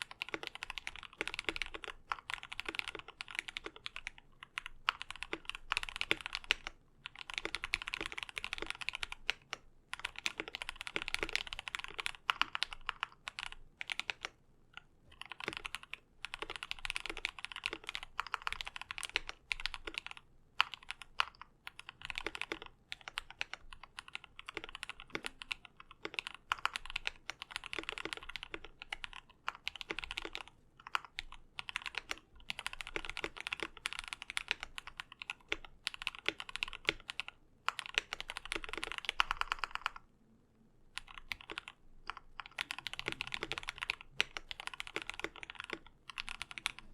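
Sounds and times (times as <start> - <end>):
mechanical keyboard typing: 0.0 - 40.0, 41.0 - 46.9.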